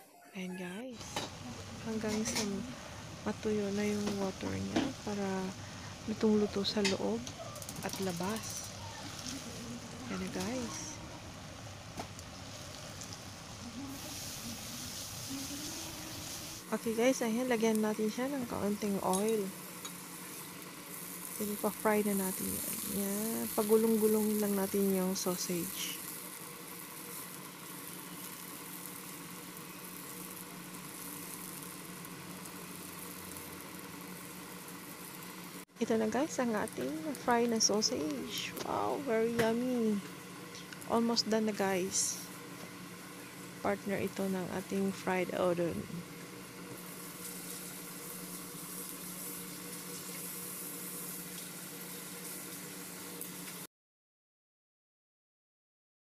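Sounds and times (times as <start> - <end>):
steady low hum: 0.0 - 52.4
sausages sizzling in a pan: 1.0 - 53.7.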